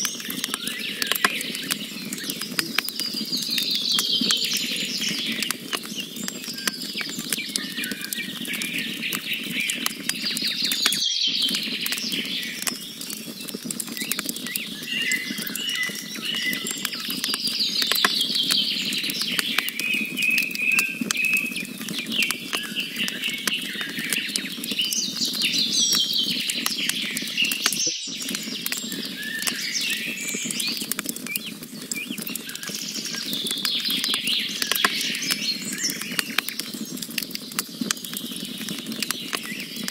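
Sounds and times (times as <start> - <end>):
campfire crackling and popping: 0.0 - 39.9
low rushing of flame: 0.0 - 39.9
songbirds trilling and chirping: 0.0 - 39.9.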